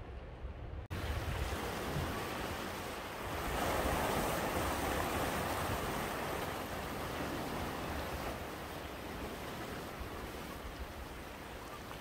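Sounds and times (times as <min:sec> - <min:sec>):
waves surging into rocky inlet: 0:00.9 - 0:12.0.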